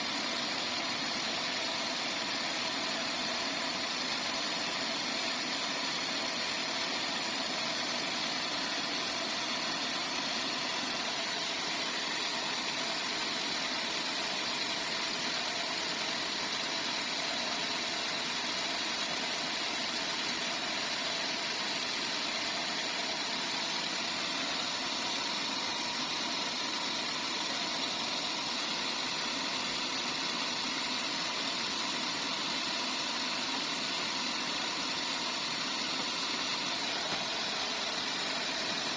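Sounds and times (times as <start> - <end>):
band sawmill drone and whine: 0.0 - 38.9.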